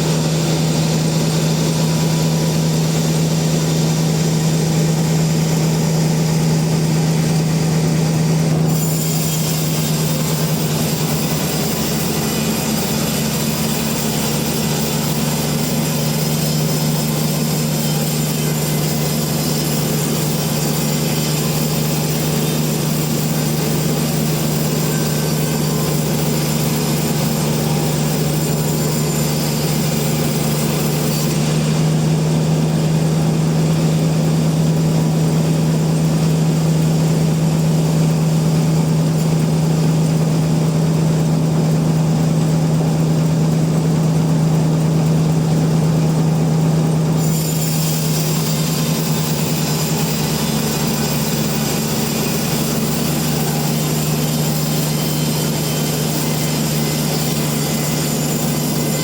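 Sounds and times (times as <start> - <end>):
high machinery hiss: 0.0 - 59.0
sawmill machinery humming: 0.0 - 59.0.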